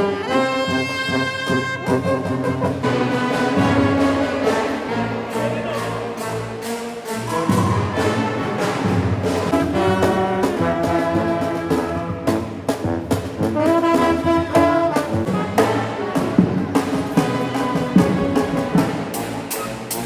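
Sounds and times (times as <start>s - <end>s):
brass orchestral music: 0.0s - 20.0s
trombone: 0.0s - 20.0s
trumpet: 0.0s - 20.0s.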